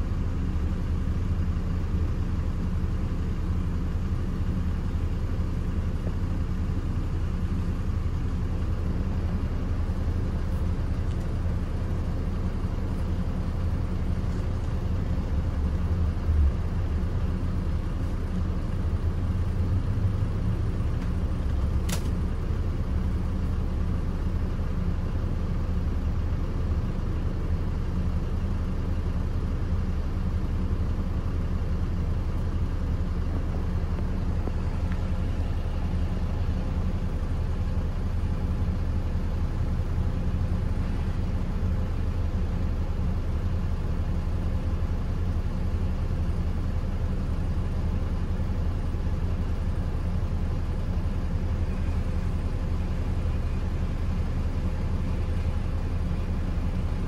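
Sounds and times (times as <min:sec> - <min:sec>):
minibus engine and road rumble: 0:00.0 - 0:57.0.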